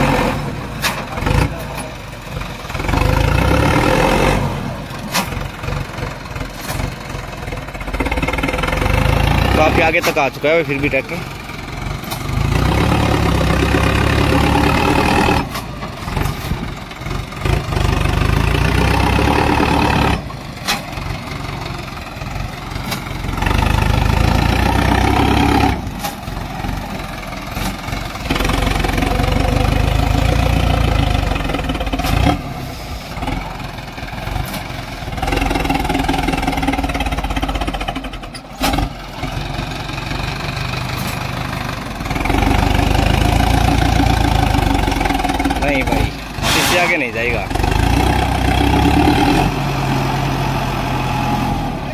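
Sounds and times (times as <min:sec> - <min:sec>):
tractor diesel engine labouring: 0:00.0 - 0:51.9.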